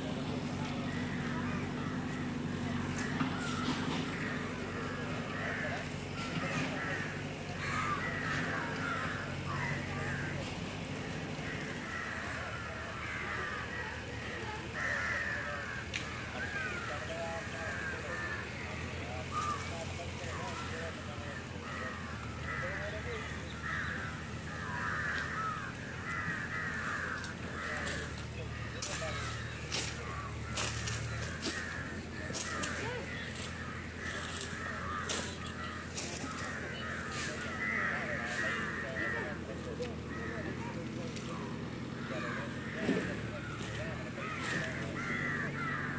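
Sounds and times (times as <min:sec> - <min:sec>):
murmur of distant voices: 0:00.0 - 0:45.9
crows cawing: 0:00.5 - 0:45.9.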